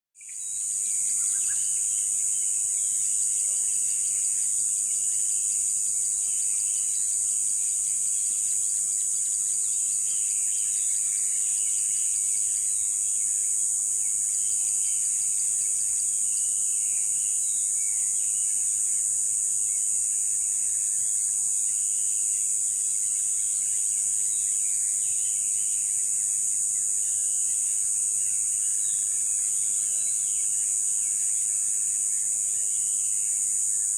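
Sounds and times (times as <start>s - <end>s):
insects chorus: 0.2s - 33.9s.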